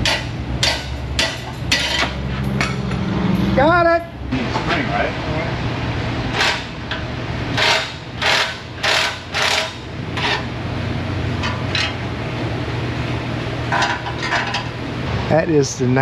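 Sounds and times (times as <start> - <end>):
low shop hum: 0.0 - 16.0.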